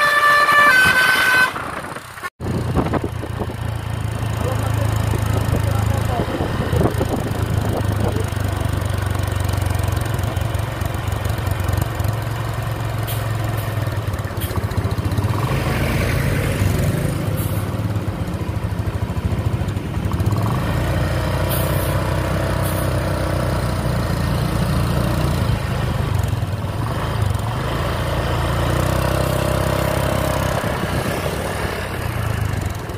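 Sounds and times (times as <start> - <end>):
vehicle engine rumbling: 0.0 - 32.9.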